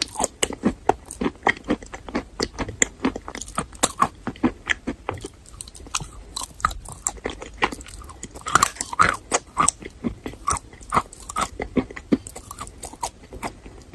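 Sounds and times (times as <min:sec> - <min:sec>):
chalk crunching being chewed: 0:00.0 - 0:13.9.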